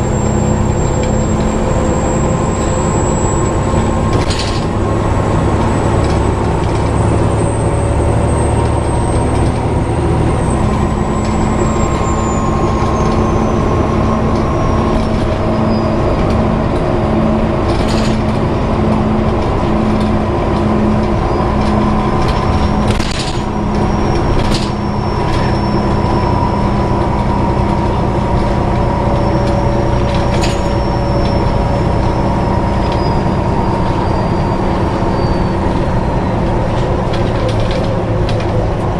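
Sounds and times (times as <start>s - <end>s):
bus diesel engine and fan: 0.0s - 38.9s
high squealing noise: 0.0s - 38.9s.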